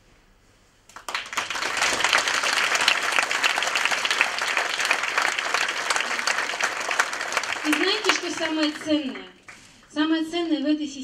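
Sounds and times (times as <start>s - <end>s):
audience applauding: 0.9s - 9.9s.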